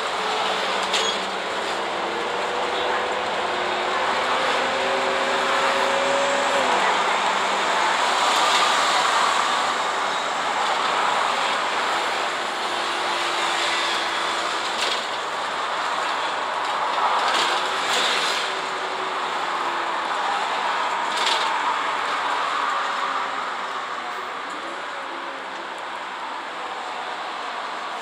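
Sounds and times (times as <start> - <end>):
bus engine and road noise: 0.0 - 28.0.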